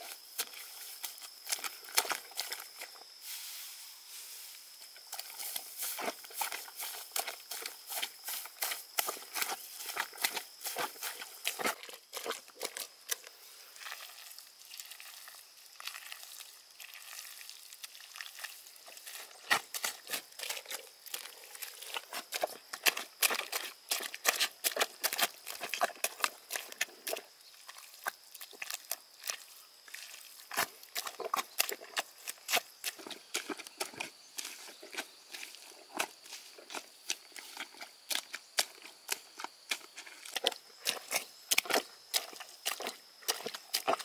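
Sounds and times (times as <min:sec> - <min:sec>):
boots squelching in mud: 0:00.0 - 0:44.0.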